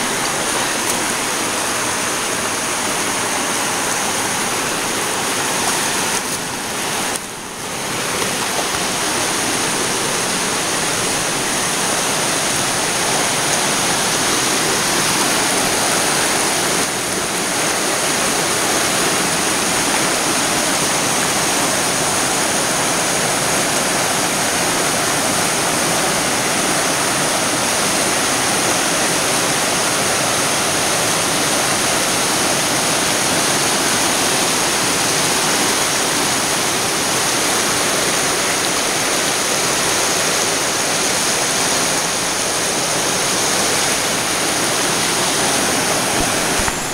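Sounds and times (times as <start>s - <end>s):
creek rushing over rocks: 0.0s - 46.9s.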